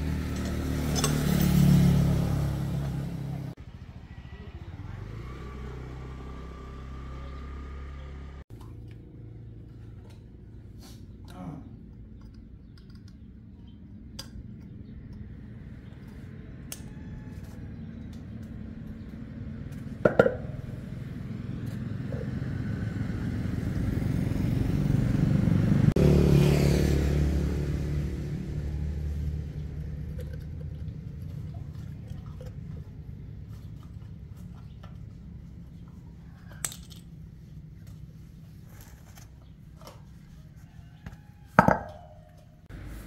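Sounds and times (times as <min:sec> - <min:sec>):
vehicle engine rumble passing: 0:00.0 - 0:11.6, 0:14.5 - 0:41.4, 0:42.2 - 0:43.0.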